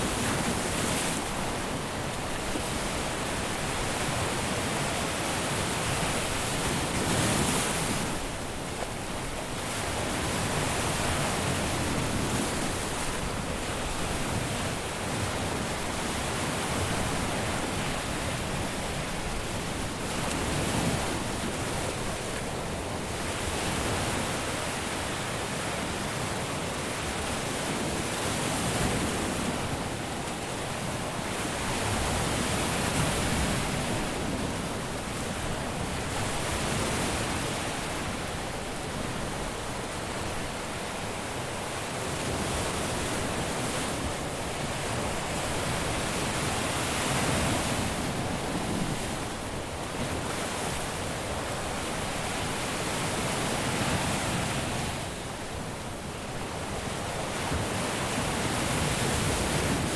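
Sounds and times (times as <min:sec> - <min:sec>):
surf breaking on beach: 0:00.0 - 0:59.9.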